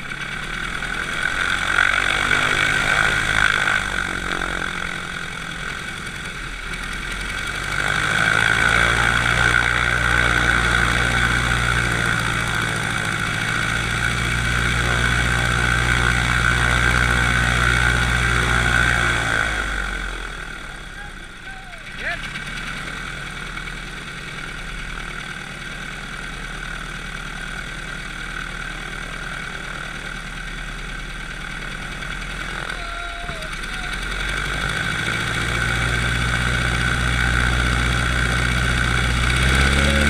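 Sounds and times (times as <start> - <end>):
propeller plane engine running: 0.0 - 40.0.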